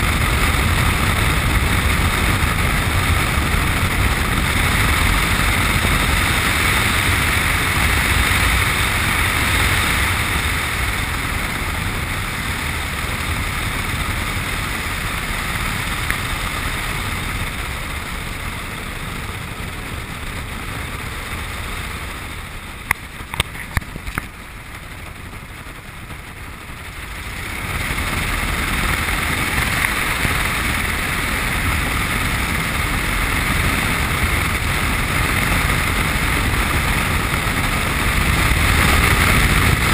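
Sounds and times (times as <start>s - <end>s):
airplane engine: 0.0s - 39.9s
wind noise: 0.0s - 39.9s.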